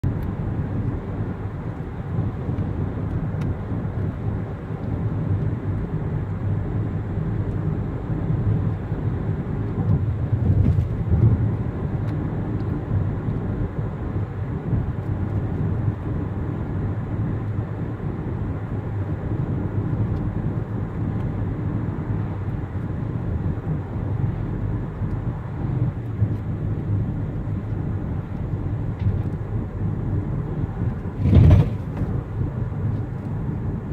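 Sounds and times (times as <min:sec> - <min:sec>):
road traffic rumble: 0:00.0 - 0:33.9.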